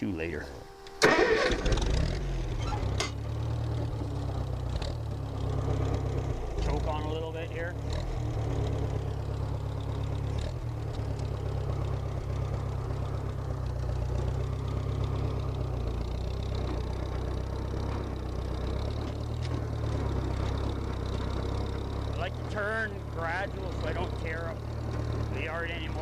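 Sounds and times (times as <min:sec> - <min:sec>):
dozer engine running: 0:00.0 - 0:26.0.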